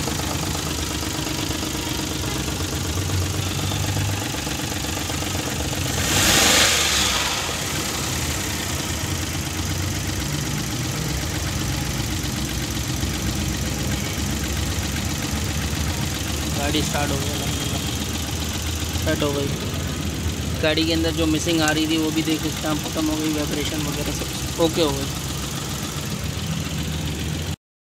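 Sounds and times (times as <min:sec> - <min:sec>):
car engine idling: 0:00.0 - 0:27.6.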